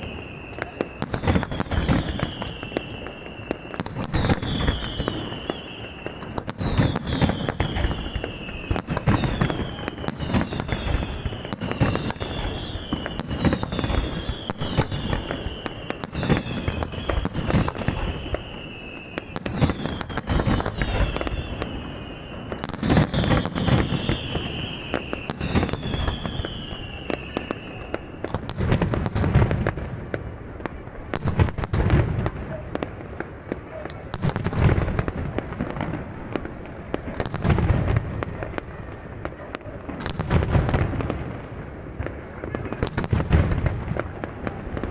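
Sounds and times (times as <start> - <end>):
falling firework whistle: 0.0 - 44.9
fireworks booming: 0.0 - 44.9
fireworks crackling: 0.0 - 44.9.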